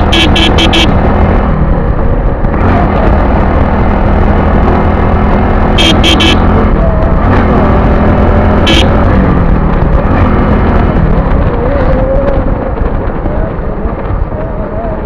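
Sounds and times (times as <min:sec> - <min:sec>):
motorcycle engine running: 0:00.0 - 0:15.0
road rumble: 0:00.0 - 0:15.0
wind noise on microphone: 0:00.0 - 0:15.0.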